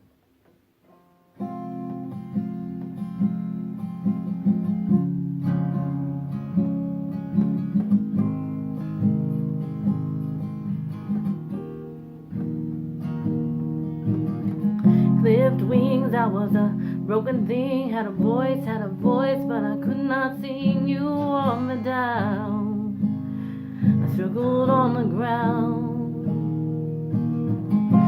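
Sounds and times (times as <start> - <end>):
acoustic guitar strumming chords: 0.8 - 28.0.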